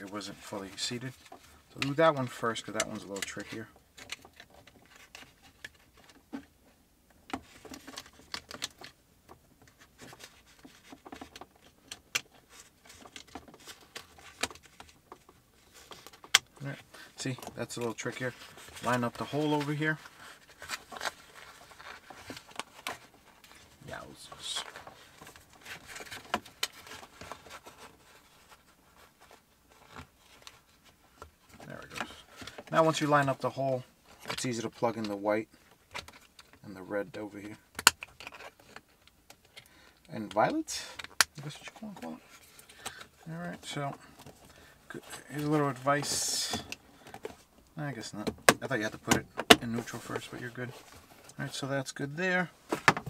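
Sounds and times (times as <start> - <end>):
soft rustling: 7.4 - 53.0.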